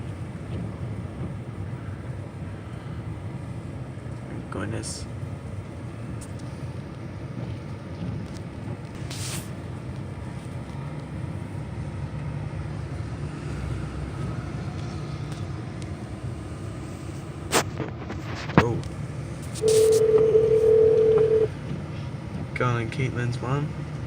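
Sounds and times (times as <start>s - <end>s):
low rumble inside vehicle: 0.0s - 24.0s.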